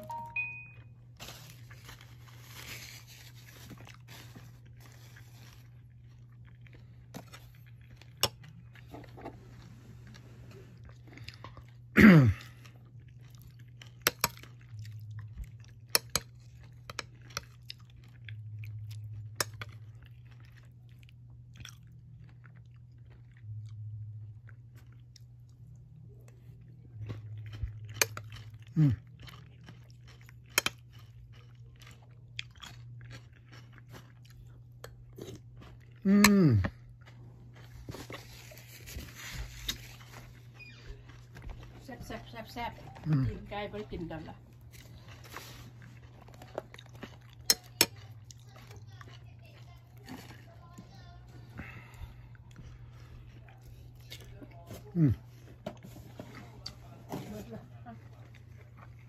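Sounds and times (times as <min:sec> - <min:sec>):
chewing and crunching: 0:00.0 - 0:59.0
steady low hum: 0:00.0 - 0:59.0.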